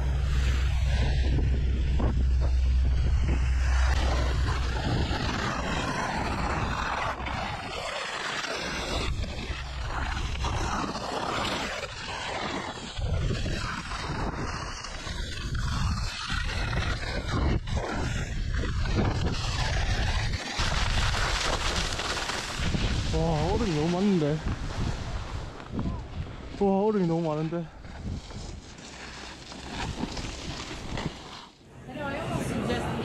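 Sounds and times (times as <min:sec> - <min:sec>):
skis scraping on icy snow: 0:00.0 - 0:32.8
wind rushing over microphone: 0:00.0 - 0:33.0.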